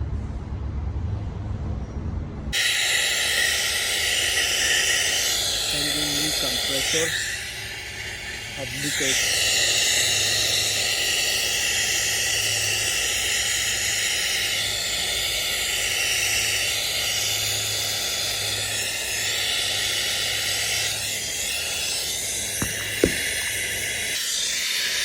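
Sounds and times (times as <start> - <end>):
low hum: 0.0 - 20.2
steady hissing: 2.5 - 25.0.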